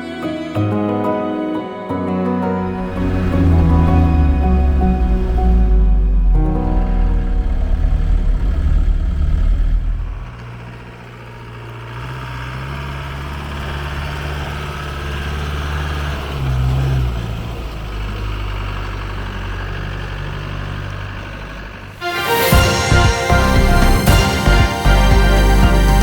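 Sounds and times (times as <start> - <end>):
diesel engine running: 2.6 - 26.0.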